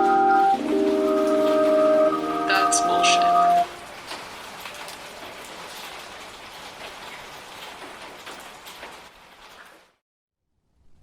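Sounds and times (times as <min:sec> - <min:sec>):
rain-like patter: 0:00.0 - 0:10.0.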